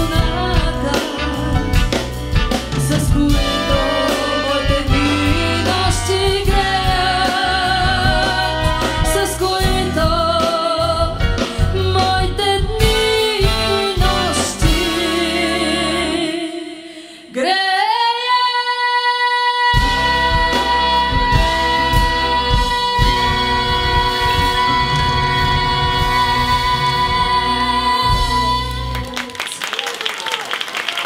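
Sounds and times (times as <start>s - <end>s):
pop band playing: 0.0s - 17.0s, 19.5s - 30.4s
woman singing with vibrato: 0.0s - 29.6s.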